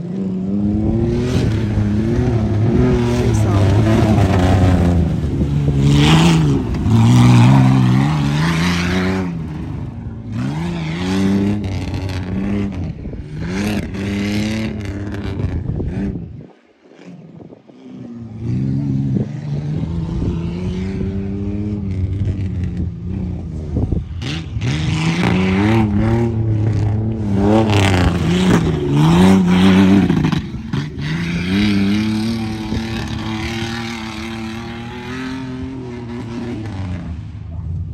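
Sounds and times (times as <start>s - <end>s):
truck engine revving: 0.0s - 16.2s, 19.6s - 37.4s.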